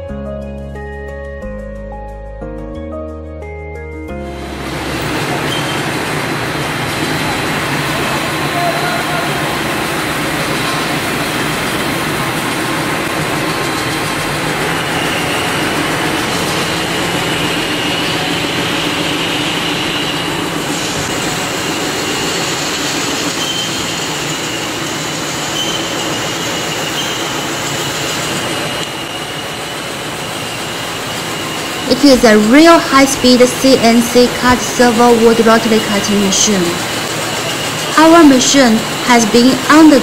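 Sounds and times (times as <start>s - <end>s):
wood peeling machine running: 4.4s - 40.0s.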